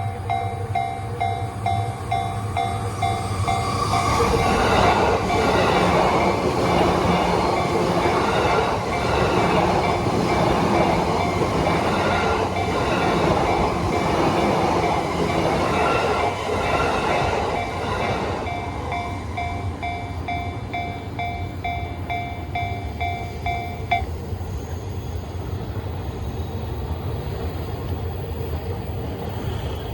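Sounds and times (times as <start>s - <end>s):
crossing warning bell dinging: 0.0s - 24.5s.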